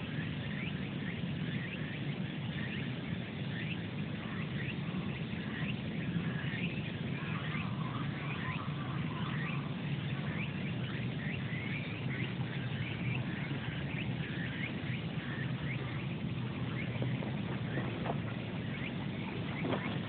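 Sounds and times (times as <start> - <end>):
small birds chirping: 0.0 - 20.0
steady low rumble: 0.0 - 20.0.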